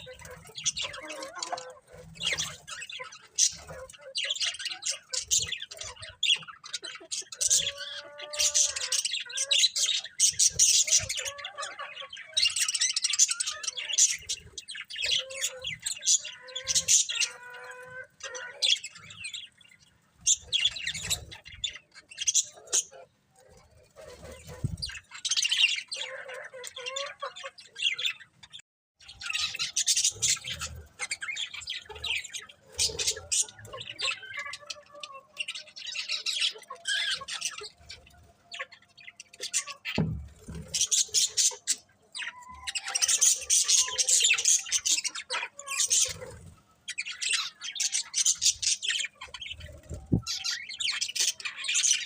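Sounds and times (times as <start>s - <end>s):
budgerigars chirping: 0.0s - 52.0s.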